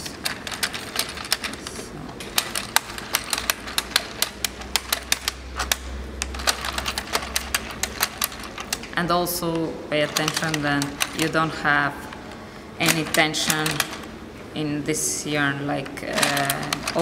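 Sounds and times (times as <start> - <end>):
knitting machine needles clicking: 0.0 - 12.1, 12.8 - 14.1, 15.5 - 17.0.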